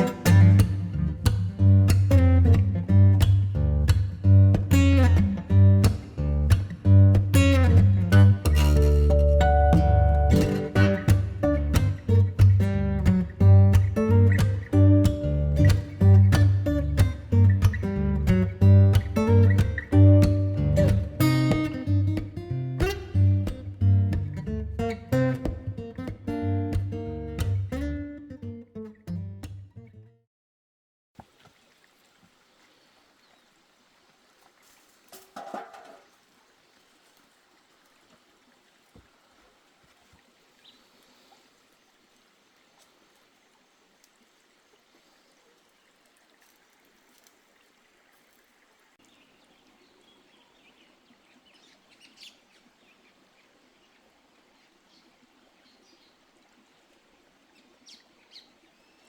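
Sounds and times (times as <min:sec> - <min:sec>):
faint outdoor ambience: 0:00.0 - 0:28.4, 0:31.2 - 0:59.0.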